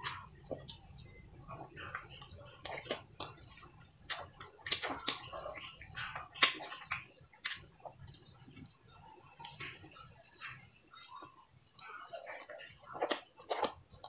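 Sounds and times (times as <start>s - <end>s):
mouth sucking and chewing: 0.0s - 9.8s, 11.8s - 13.9s
lip smacks and clicks: 0.0s - 10.5s, 11.2s - 13.9s.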